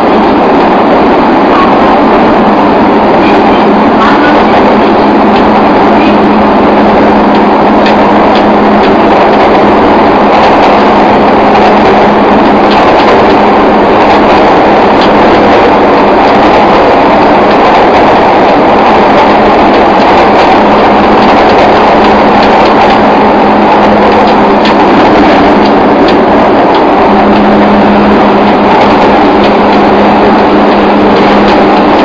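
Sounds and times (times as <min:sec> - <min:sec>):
train wheels rumbling in tunnel: 0:00.0 - 0:32.0.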